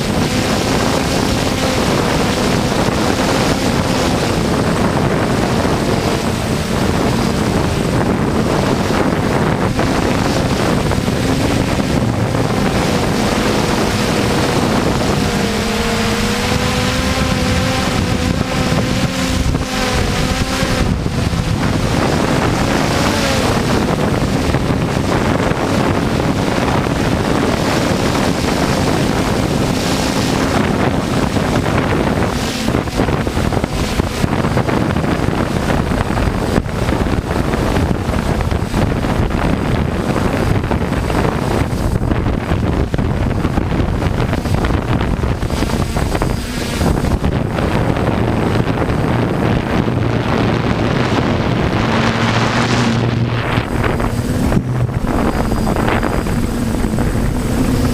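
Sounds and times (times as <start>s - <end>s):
drone motors humming: 0.0s - 57.9s
wind buffeting microphone: 0.0s - 57.9s.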